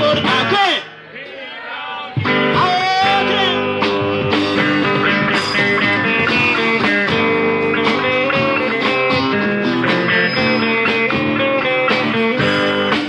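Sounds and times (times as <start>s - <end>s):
live band playing: 0.0s - 1.4s, 2.1s - 13.0s
guitar melody: 2.2s - 13.0s.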